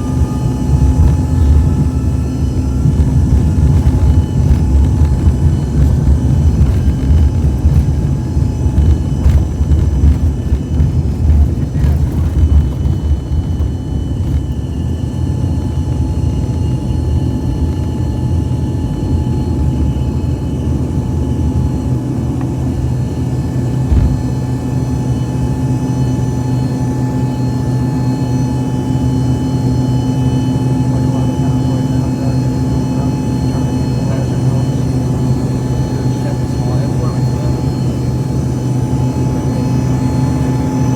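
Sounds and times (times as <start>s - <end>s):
jet engines rumbling and whining: 0.0s - 40.9s.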